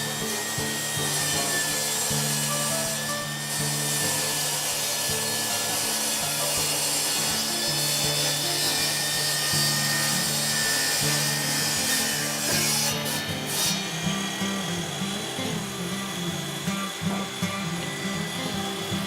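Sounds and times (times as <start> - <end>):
wood rasping: 0.0 - 19.0.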